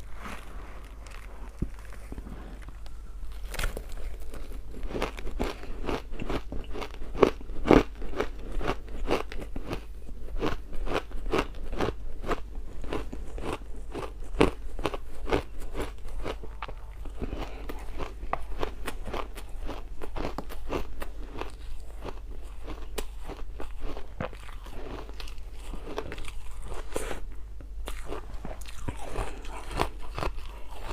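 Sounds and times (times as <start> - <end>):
ice being chewed: 0.0 - 27.3, 27.9 - 30.9.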